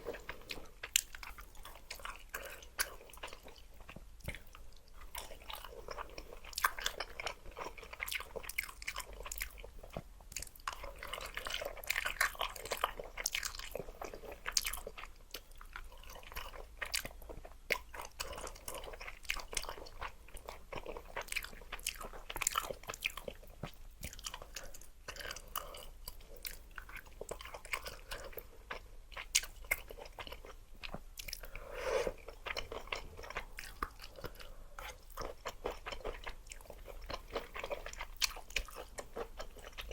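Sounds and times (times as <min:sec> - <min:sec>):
person chewing noodles: 0:00.0 - 0:39.9.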